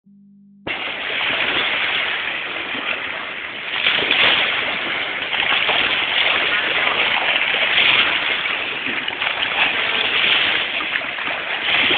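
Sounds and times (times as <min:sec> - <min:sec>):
waves washing onto stony shore: 0:00.7 - 0:11.9.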